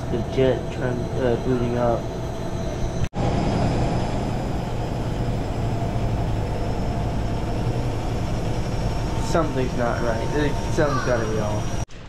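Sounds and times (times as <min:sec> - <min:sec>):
washing machine roaring: 0:00.0 - 0:12.0.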